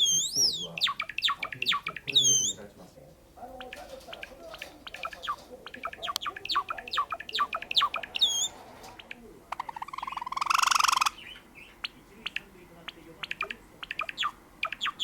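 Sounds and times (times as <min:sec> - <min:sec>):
sparrow singing: 0:00.0 - 0:15.0.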